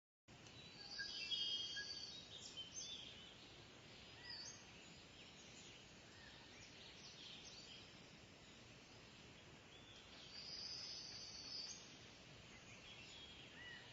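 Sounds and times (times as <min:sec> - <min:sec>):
low outdoor hiss: 0:00.3 - 0:13.9.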